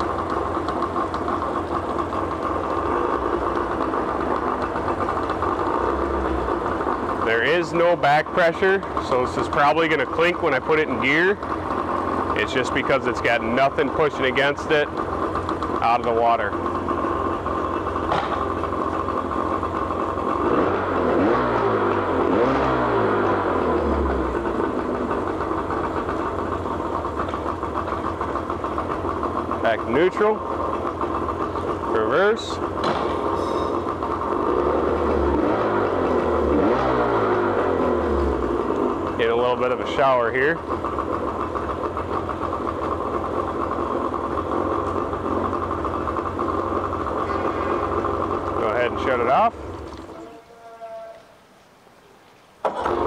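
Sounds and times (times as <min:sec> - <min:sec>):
outboard motor running: 0:00.0 - 0:51.1, 0:52.6 - 0:53.0.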